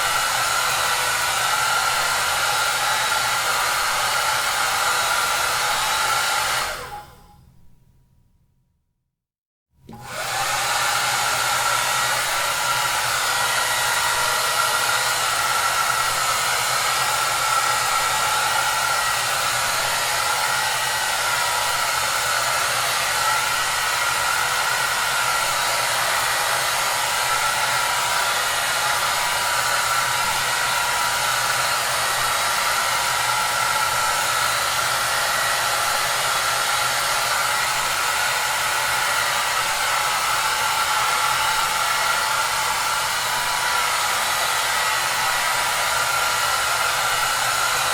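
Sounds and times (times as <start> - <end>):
hair dryer running: 0.0 - 7.4, 9.8 - 47.9.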